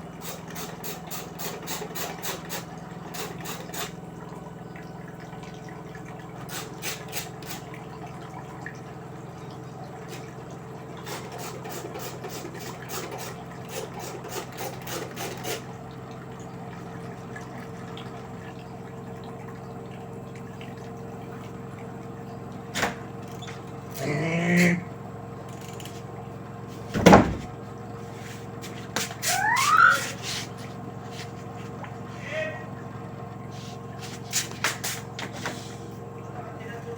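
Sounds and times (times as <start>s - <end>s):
washing machine hum: 0.0s - 36.9s
water moving in washing machine drum: 0.1s - 24.0s, 25.7s - 36.4s.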